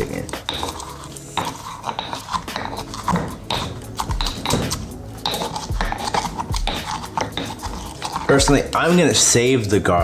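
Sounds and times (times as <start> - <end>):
pestle pounding in stone mortar: 0.0 - 9.0.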